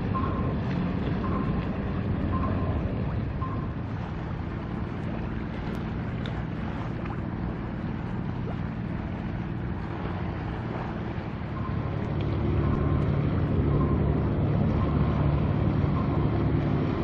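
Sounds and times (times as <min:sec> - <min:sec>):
low engine hum: 0:00.0 - 0:17.0
wind on microphone: 0:00.0 - 0:17.0.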